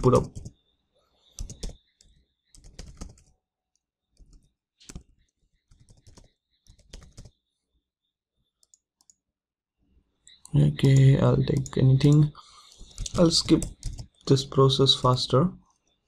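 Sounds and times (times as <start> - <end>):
faint keyboard typing: 0.0 - 0.6, 1.2 - 7.4, 8.6 - 9.2, 10.2 - 16.0.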